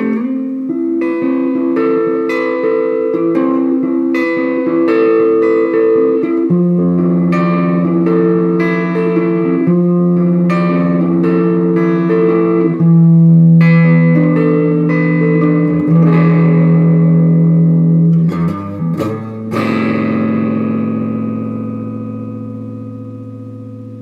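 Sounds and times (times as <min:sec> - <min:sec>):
overdriven electric guitar: 0:00.0 - 0:24.0.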